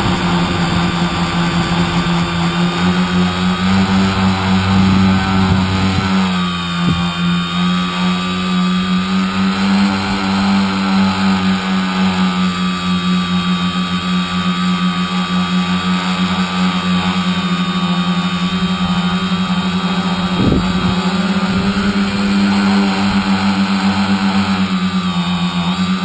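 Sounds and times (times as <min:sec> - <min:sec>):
drone motors buzzing whine: 0:00.0 - 0:26.0.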